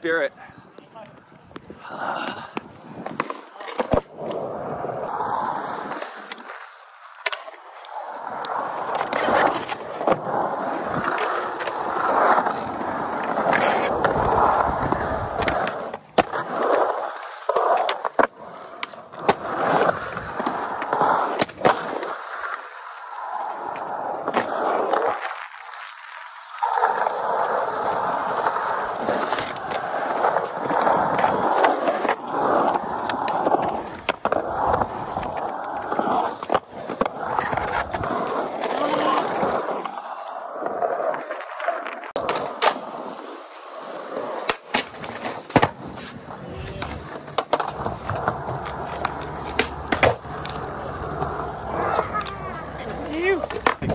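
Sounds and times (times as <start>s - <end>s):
skateboard wheels rolling on concrete: 0.0s - 53.9s
skateboard clacking: 5.9s - 53.9s.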